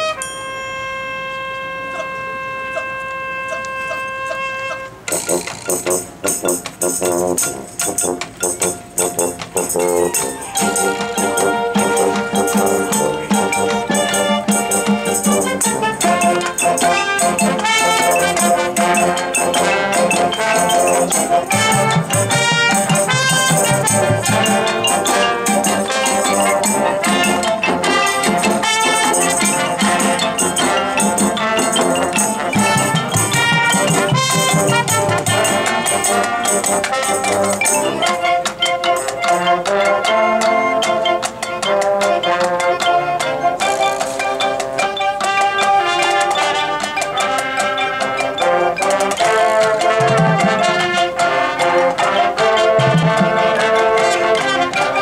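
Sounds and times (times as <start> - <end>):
percussion strikes: 0.0 - 4.2, 5.0 - 55.0
brass and woodwind chords: 0.0 - 55.0
marching band playing: 0.0 - 55.0.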